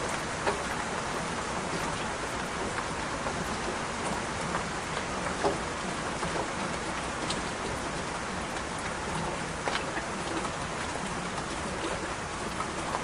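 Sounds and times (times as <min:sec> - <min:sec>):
sharp raindrops: 0:00.0 - 0:13.0
steady rain: 0:00.0 - 0:13.0.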